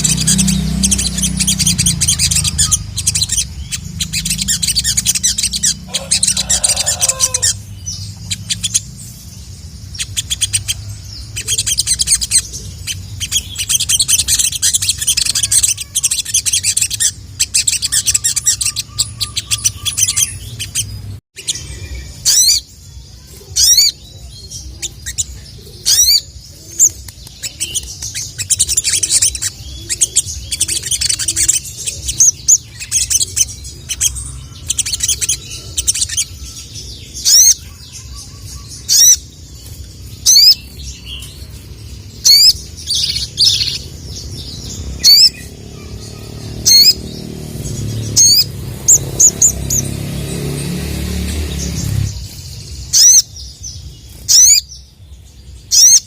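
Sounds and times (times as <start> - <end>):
bird calling with high chirps: 0.0 - 56.0.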